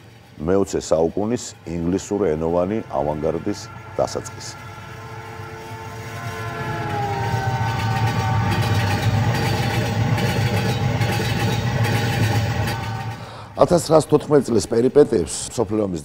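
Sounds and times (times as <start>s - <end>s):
rumbling drone with held tones: 0.0s - 14.6s.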